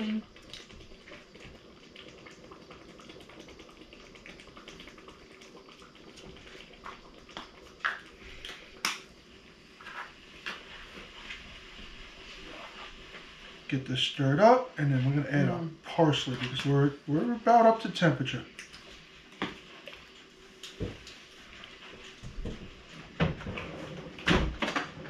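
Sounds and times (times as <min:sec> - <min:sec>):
faint steady background noise: 0:00.0 - 0:25.0
sauce simmering and spitting: 0:00.2 - 0:24.2.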